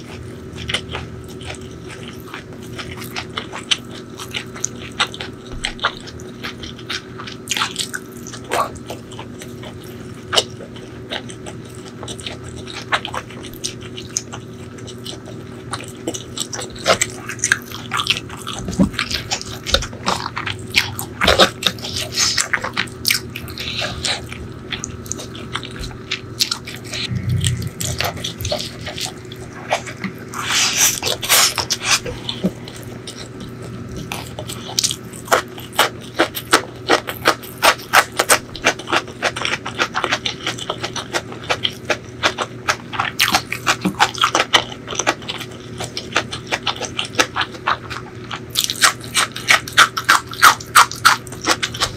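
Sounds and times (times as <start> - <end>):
wet chewing: 0.0 - 51.9.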